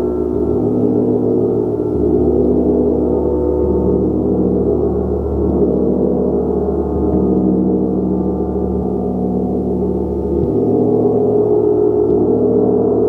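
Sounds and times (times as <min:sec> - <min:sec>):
gong sounding: 0:00.0 - 0:13.0.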